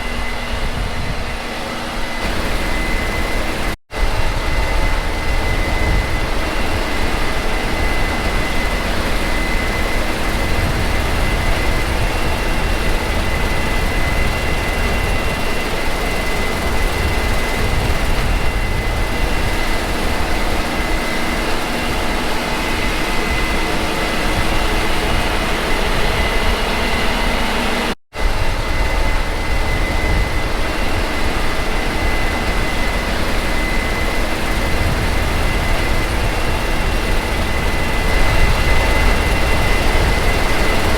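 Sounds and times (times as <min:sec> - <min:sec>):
combine harvester engine drone: 0:00.0 - 0:40.9
high whine: 0:00.0 - 0:40.9.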